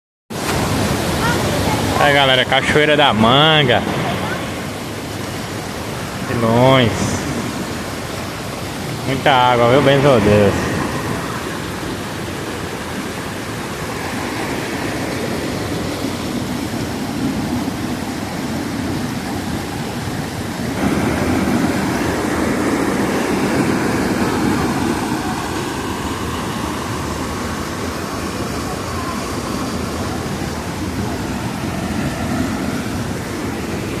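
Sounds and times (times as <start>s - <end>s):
waterfall rushing: 0.3s - 34.0s.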